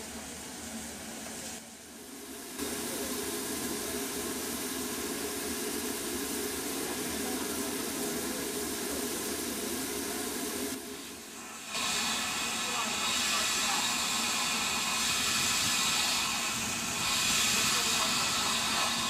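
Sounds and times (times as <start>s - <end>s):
steam locomotive hissing steam: 0.0s - 19.0s.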